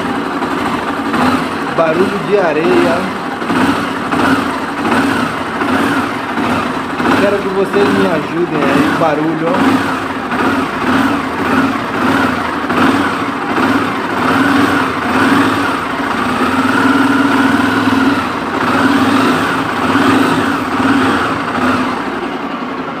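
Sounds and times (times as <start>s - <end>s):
gritty noise inside engine: 0.0s - 23.0s
motorcycle engine running: 0.0s - 23.0s.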